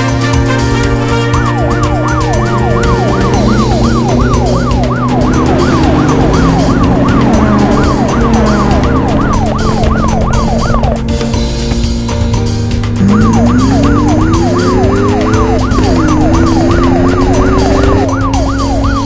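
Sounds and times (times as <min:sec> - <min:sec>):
background music: 0:00.0 - 0:19.0
cartoon police siren yelping: 0:00.3 - 0:11.1, 0:13.0 - 0:19.0.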